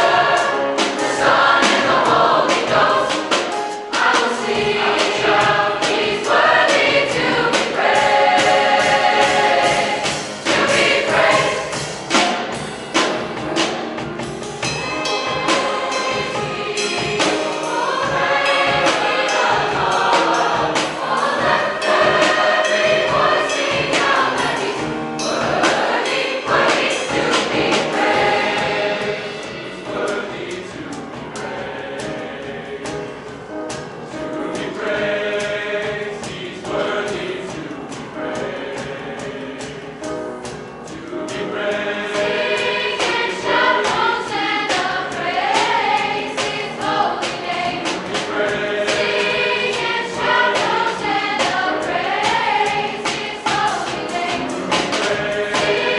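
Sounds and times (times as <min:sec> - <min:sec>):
choir singing gospel song: 0:00.0 - 0:13.7, 0:14.6 - 0:55.9
drum strikes: 0:00.0 - 0:55.9
piano: 0:00.0 - 0:55.9.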